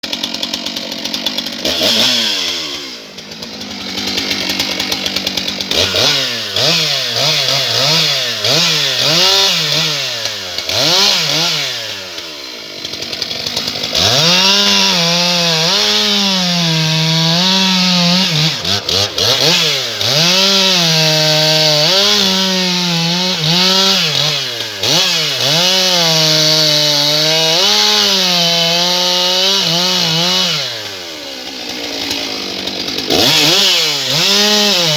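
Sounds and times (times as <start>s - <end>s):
chainsaw revving and cutting logs: 0.0s - 34.9s.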